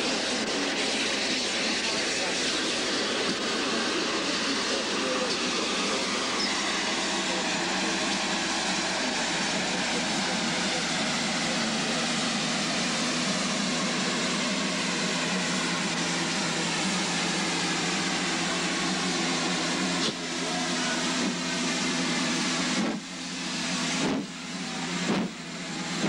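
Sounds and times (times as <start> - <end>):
steam locomotive hissing: 0.0 - 26.0.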